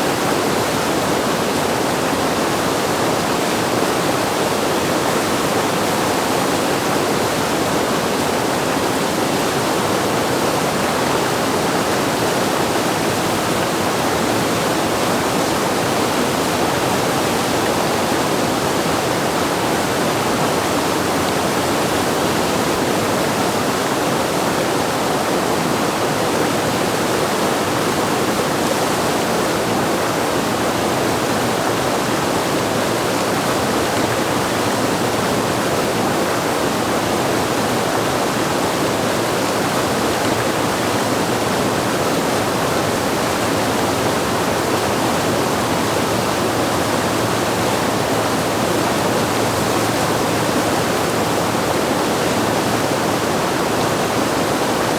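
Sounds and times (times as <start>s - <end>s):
whitewater roaring: 0.0s - 54.9s.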